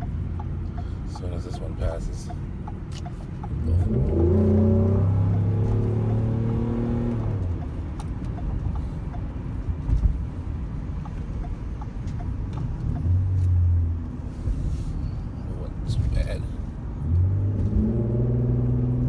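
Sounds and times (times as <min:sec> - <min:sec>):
car engine drone: 0:00.0 - 0:19.0
road and tyre rumble: 0:00.0 - 0:19.0.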